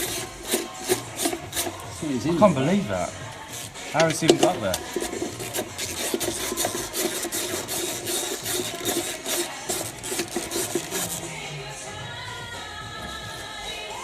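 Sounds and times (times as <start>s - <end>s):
hand tools scraping metal bolts: 0.0s - 11.4s
faint music: 0.0s - 14.0s.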